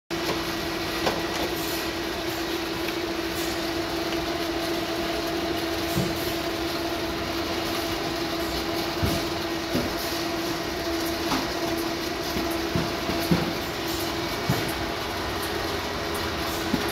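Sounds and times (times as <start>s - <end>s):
machine hum: 0.1s - 16.9s.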